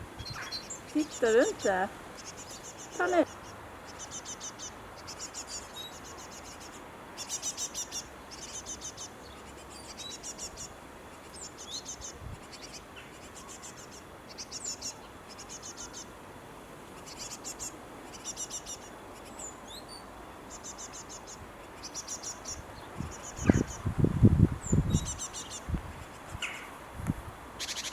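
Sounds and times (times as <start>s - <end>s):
young birds chirping: 0.2s - 16.2s, 16.9s - 24.0s, 24.6s - 26.8s, 27.6s - 27.9s.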